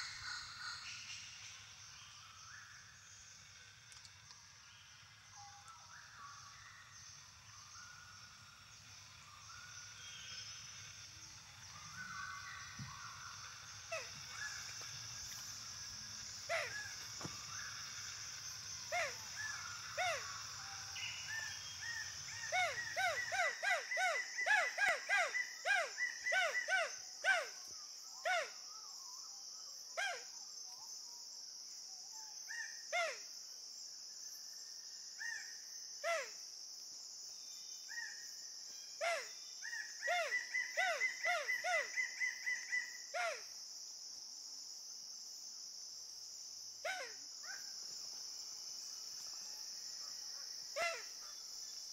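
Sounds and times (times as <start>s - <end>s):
high-pitched insect drone: 0.0s - 51.9s.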